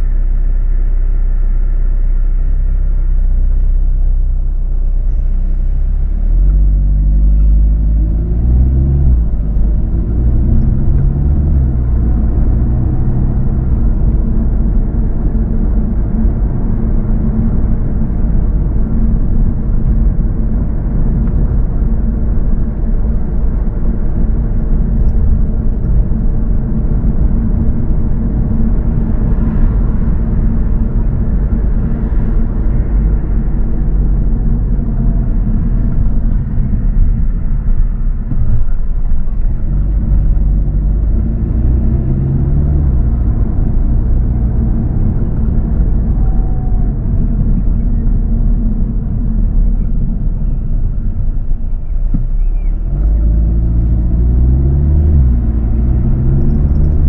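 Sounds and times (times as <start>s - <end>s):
car driving on road rumble: 0.0s - 57.0s.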